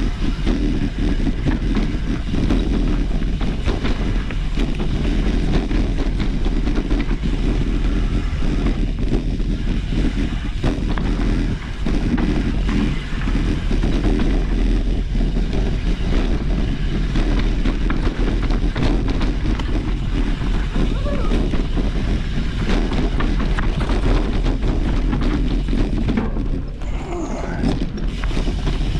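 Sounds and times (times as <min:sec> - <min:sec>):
bike rattling over rough ground: 0:00.0 - 0:28.9
wind rumbling on microphone: 0:00.0 - 0:28.9.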